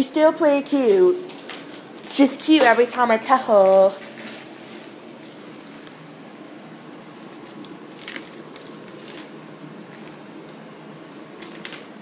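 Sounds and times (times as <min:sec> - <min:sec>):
plastic packaging crinkling: 0:00.9 - 0:06.0, 0:06.7 - 0:10.8, 0:11.4 - 0:12.0.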